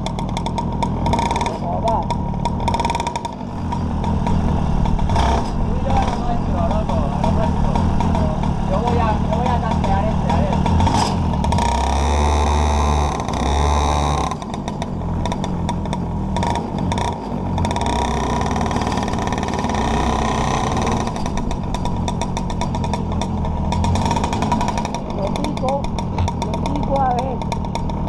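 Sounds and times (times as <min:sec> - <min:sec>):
engine crackling: 0:00.0 - 0:28.0
kart engine running: 0:00.0 - 0:28.0.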